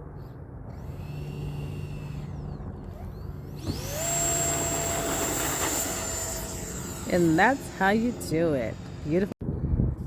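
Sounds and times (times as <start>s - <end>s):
electric ducted fan whining: 0.6s - 9.4s.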